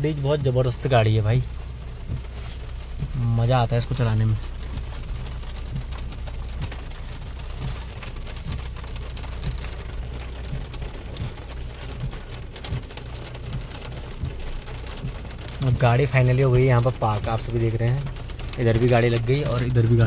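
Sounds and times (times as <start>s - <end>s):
heavy rain on a car: 0.0s - 20.0s.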